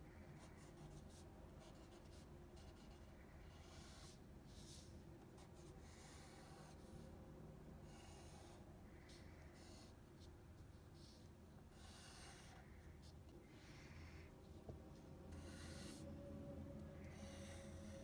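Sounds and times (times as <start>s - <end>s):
pencil scratching on paper: 0.4s - 7.0s, 7.8s - 14.3s, 14.9s - 16.1s, 17.0s - 18.0s.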